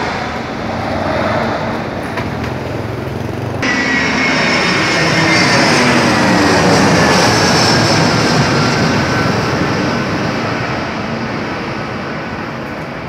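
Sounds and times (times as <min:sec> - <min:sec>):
jet airliner passing overhead: 0:00.0 - 0:13.0.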